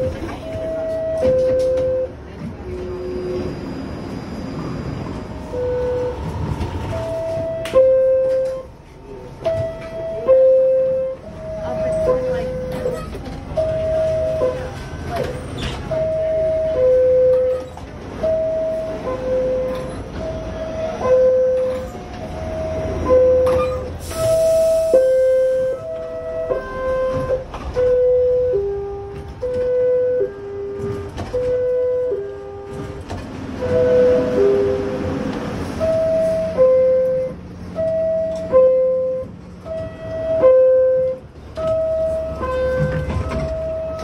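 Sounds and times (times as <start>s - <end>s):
subway car rumble: 0.0s - 44.0s.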